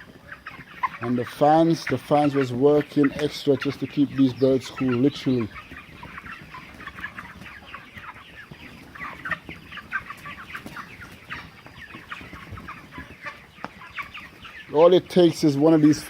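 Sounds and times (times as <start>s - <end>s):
chickens clucking and chirping: 0.0s - 16.0s.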